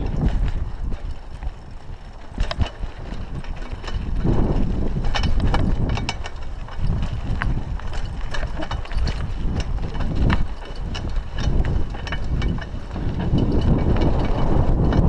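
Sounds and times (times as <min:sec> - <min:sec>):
mountain bike rattling and clicking: 0:00.0 - 0:15.0
wind rumbling on microphone: 0:00.0 - 0:15.0.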